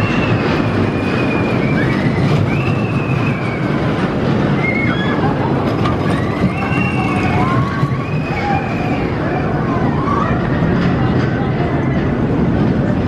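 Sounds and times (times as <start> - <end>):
high wails of roller coaster: 0.0 - 13.0
roller coaster rumbling on track: 0.0 - 13.0.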